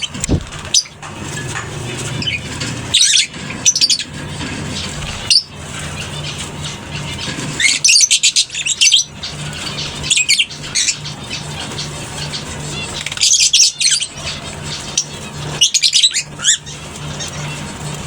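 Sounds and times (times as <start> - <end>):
lovebirds shrill chattering: 0.0 - 18.0
steady low hum: 0.0 - 18.0.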